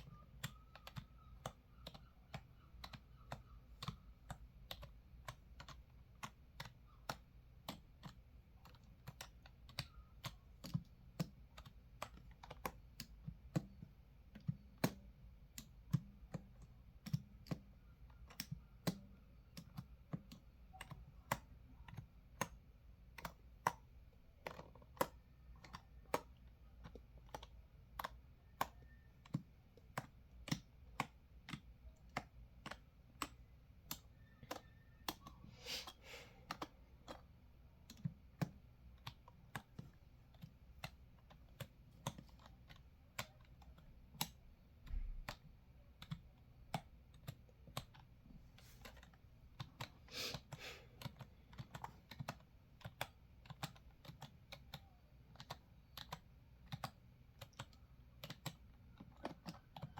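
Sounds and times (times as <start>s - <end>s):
keyboard typing: 0.0s - 59.9s.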